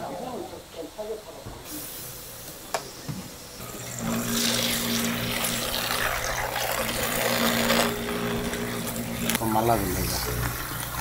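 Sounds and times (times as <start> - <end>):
steady machine hum: 1.6 - 11.0
water running and splashing: 1.7 - 11.0.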